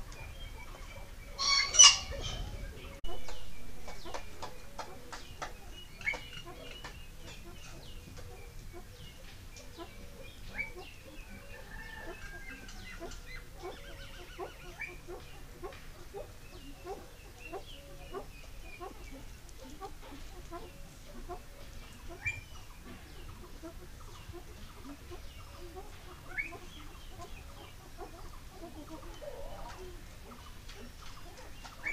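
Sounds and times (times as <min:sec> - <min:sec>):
fowl clucking: 0:01.4 - 0:09.0, 0:09.6 - 0:31.9.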